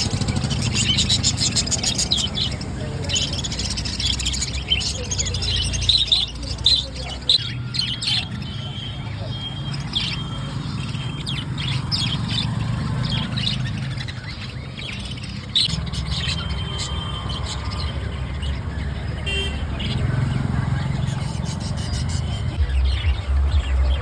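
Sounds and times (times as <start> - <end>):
birds chirping and squeaking: 0.0 - 24.0.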